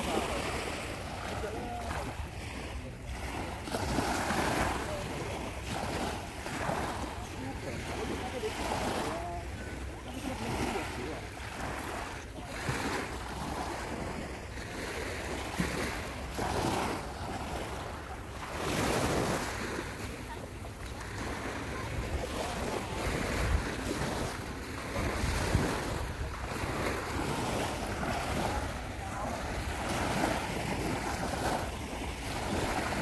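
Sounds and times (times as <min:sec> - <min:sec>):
small waves washing on sand: 0:00.0 - 0:33.0.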